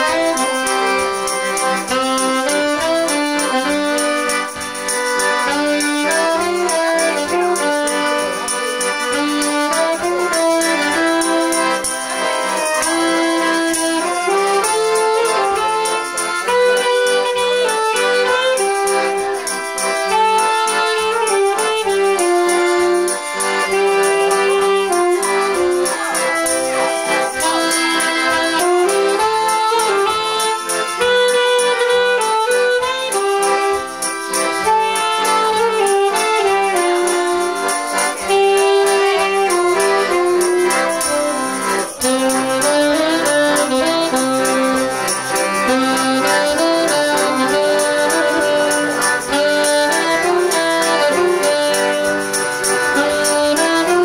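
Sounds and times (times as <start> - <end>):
band playing a waltz: 0.0 - 54.0.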